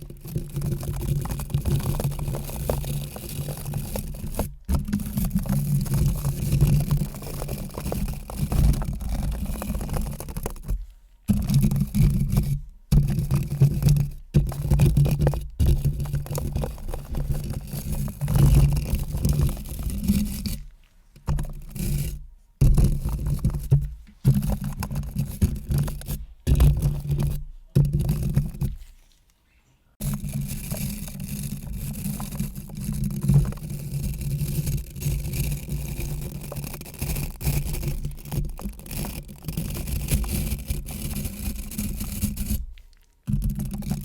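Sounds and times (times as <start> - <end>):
close brushing and scratching: 0.0 - 29.4, 30.0 - 44.0.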